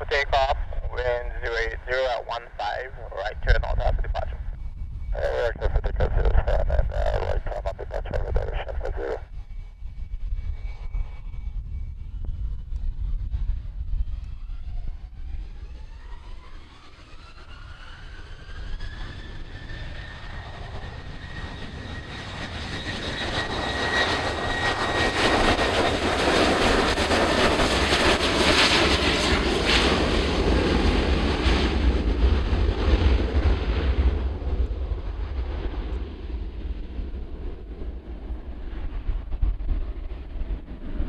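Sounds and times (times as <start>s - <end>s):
jet engines spooling up whine: 0.0s - 41.0s
jet taking off: 0.0s - 41.0s.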